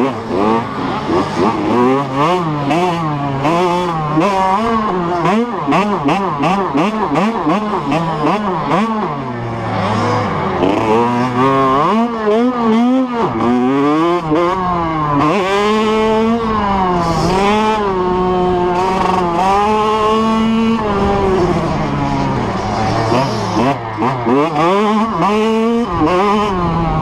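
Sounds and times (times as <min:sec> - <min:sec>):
two-stroke motorbike engine revving: 0:00.0 - 0:27.0.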